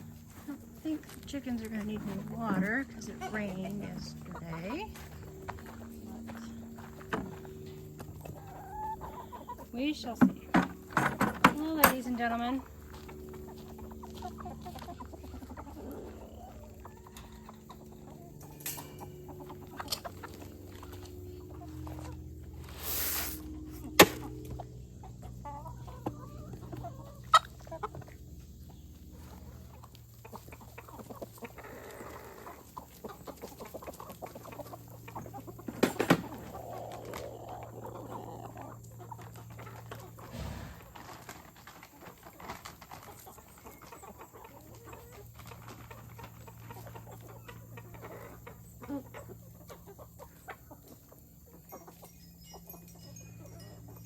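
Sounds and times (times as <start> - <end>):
hens clucking: 0.0 - 54.0.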